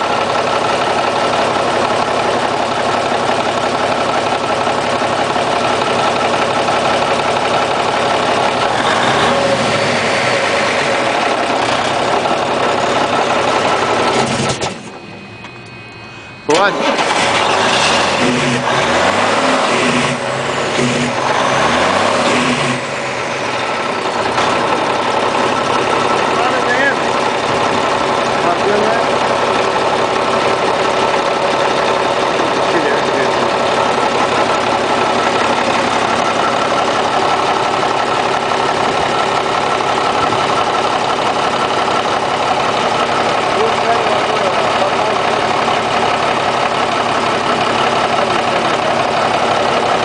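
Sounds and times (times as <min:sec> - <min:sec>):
diesel engine revving and idling: 0:00.0 - 0:50.0.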